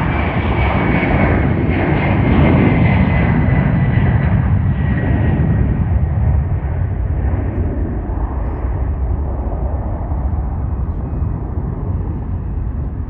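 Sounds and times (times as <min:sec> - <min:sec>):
jet airliner engines at take-off: 0:00.0 - 0:13.0.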